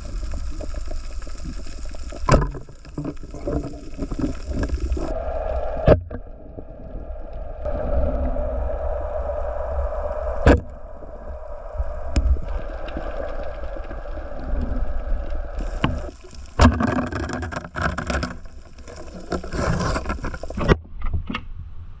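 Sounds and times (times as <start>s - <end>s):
low rumble: 0.0s - 17.6s.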